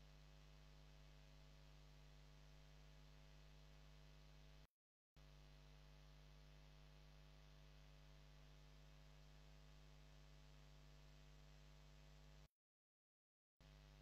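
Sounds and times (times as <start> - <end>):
faint low hum: 0.0 - 12.5, 13.6 - 14.0.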